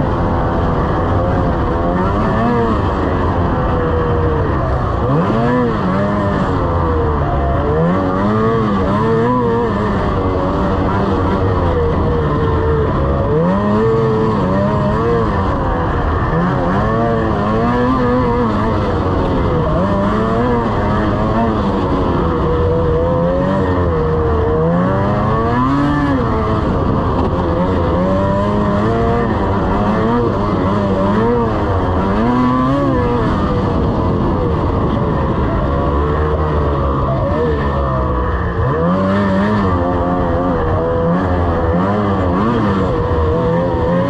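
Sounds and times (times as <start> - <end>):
snowmobile engine revving: 0.0 - 44.0
steady rushing noise: 0.0 - 44.0.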